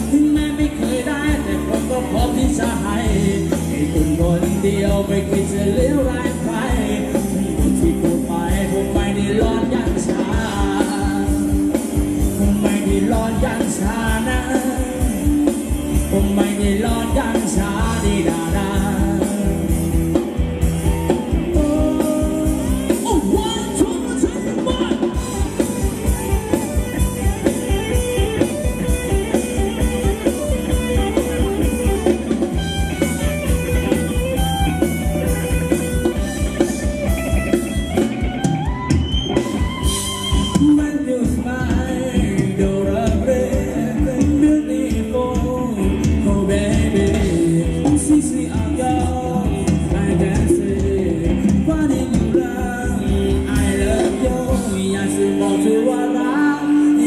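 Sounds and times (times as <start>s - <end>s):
live band dance music: 0.0s - 57.0s.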